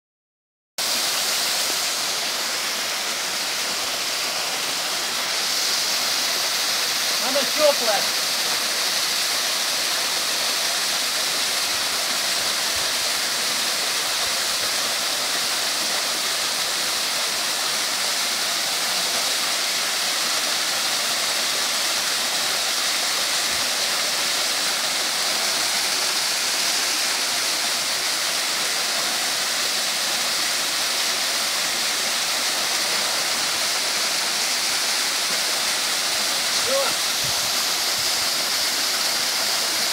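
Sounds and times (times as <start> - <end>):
waterfall rushing: 0.8 - 39.9.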